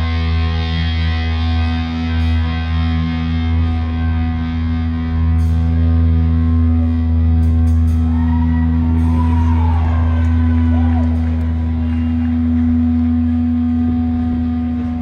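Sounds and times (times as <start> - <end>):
distorted guitar and bass chord: 0.0 - 15.0.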